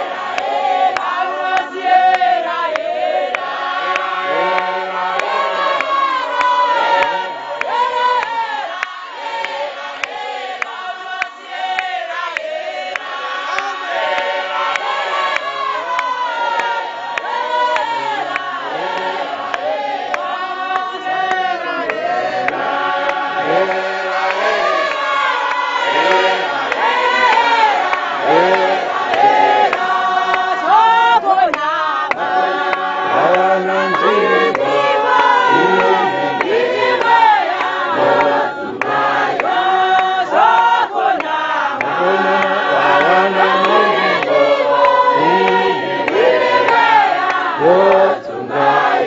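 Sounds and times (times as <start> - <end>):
congregation singing: 0.0 - 49.0.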